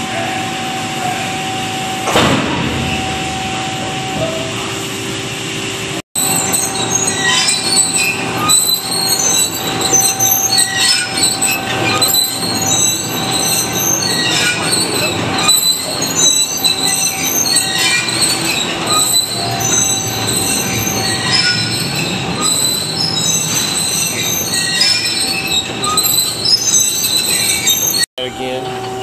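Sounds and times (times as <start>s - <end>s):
high-pitched metallic squeals: 0.0s - 5.2s, 5.9s - 29.0s
baler mechanical clatter: 1.8s - 29.0s.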